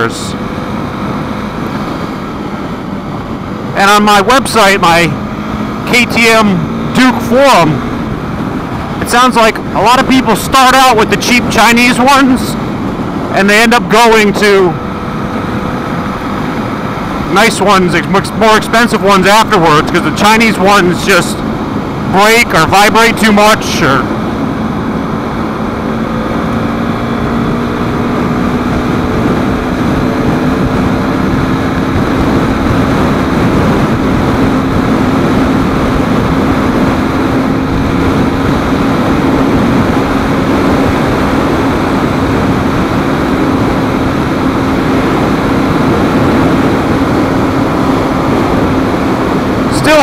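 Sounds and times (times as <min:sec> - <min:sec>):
motorcycle engine cruising: 0:00.0 - 0:50.0
wind rush on microphone: 0:00.0 - 0:50.0.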